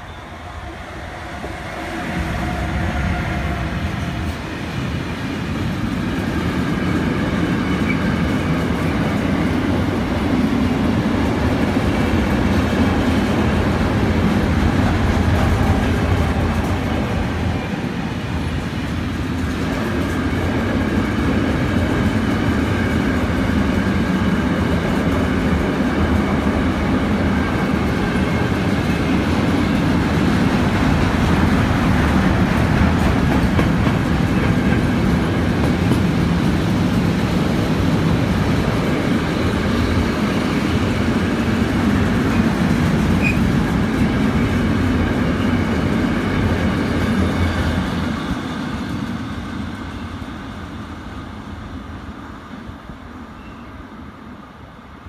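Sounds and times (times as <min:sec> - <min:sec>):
freight train rumbling on rails: 0:00.0 - 0:55.0.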